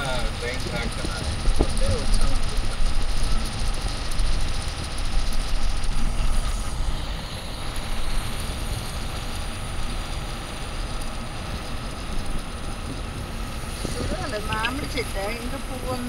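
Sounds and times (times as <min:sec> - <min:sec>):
moving vehicle road noise: 0:00.0 - 0:16.0.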